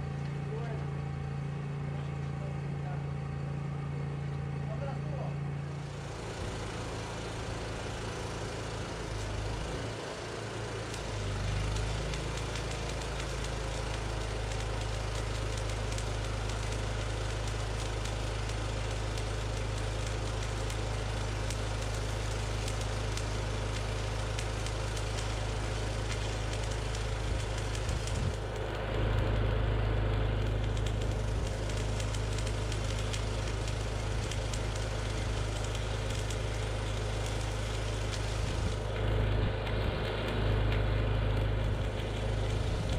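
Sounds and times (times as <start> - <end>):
engine droning: 0.0 - 42.9
welding arc crackling: 5.6 - 42.9.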